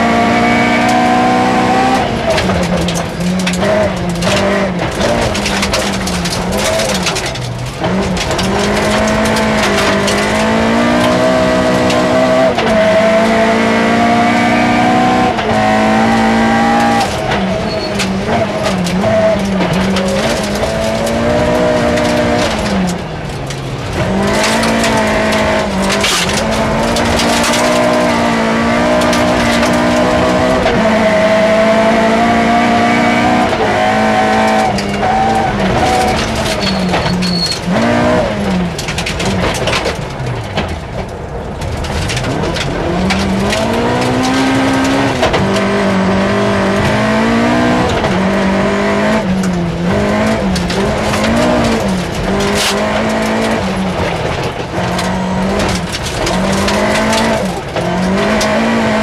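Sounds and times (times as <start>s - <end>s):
car engine at high revs: 0.0s - 59.0s
gravel ticking against car: 0.2s - 59.0s.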